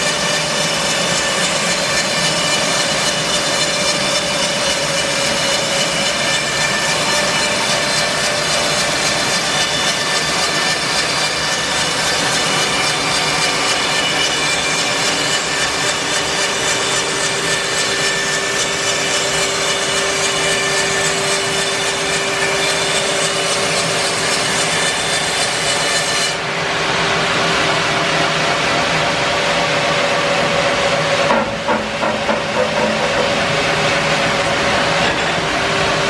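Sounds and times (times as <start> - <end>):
bandsaw mill cutting log: 0.0 - 36.0.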